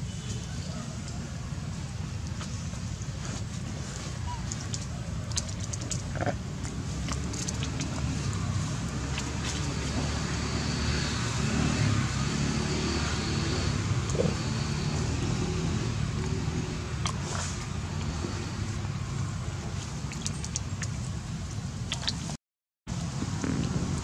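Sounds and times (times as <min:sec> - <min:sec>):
low rumbling background noise: 0:00.0 - 0:24.0.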